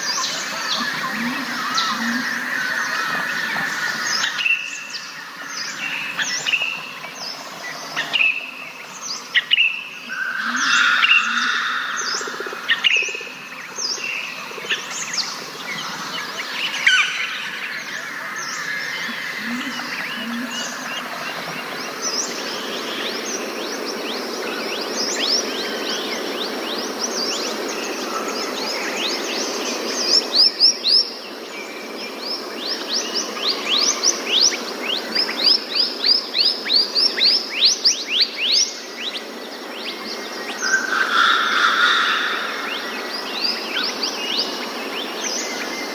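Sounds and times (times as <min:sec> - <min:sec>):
birds chirping and calling: 0:00.0 - 0:45.9
steady background hiss: 0:00.0 - 0:45.9.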